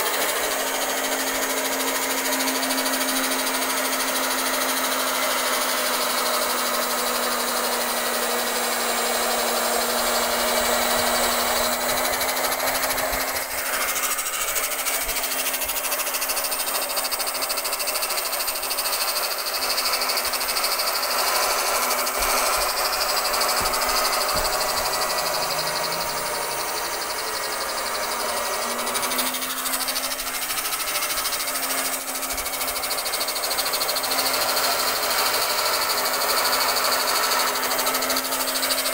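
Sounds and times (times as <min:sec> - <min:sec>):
electric cloth cutter running: 0:00.0 - 0:38.9.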